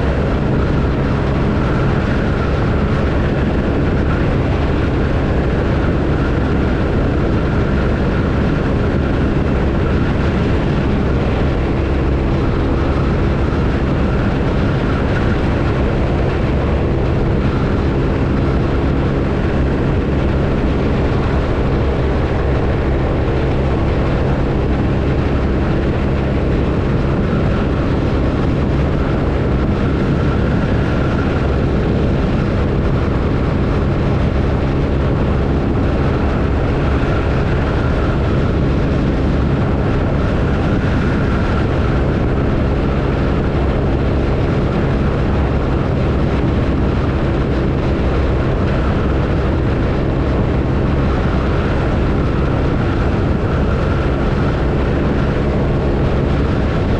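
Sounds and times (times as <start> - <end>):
motorcycle engine cruising: 0.0 - 56.9
riding wind noise: 0.0 - 56.9.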